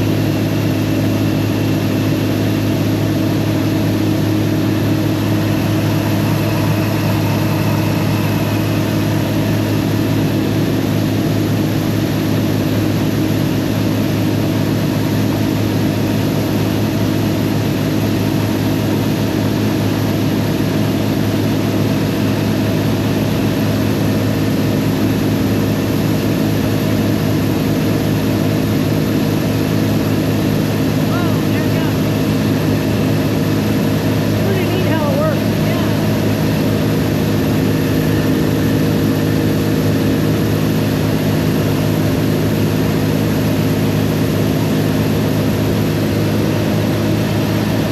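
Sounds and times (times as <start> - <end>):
combine harvester engine droning: 0.0 - 47.9.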